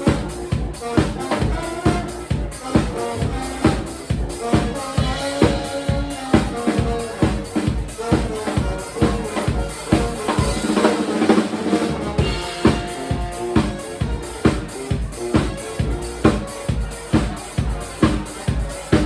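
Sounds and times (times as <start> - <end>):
bass drum and snare beat: 0.0 - 19.0
live band playing: 0.0 - 19.0.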